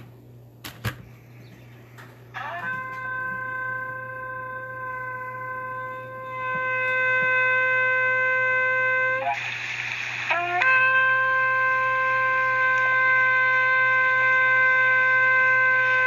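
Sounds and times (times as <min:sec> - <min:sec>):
shofar blast: 0:02.3 - 0:09.5, 0:10.3 - 0:16.0.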